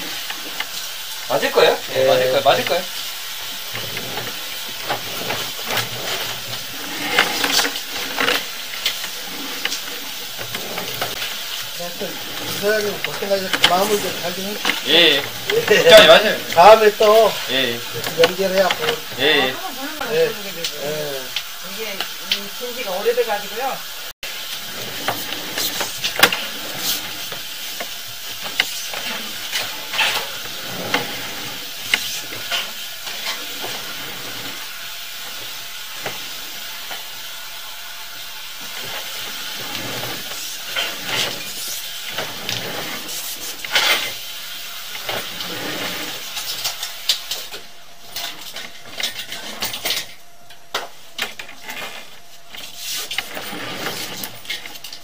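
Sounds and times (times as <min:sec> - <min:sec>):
steady hiss: 0:00.0 - 0:50.2.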